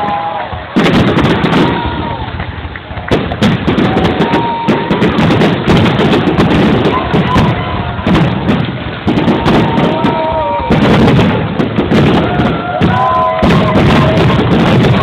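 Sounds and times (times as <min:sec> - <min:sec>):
fireworks bangs and crackles: 0:00.0 - 0:15.0
fireworks whistling: 0:00.0 - 0:15.0.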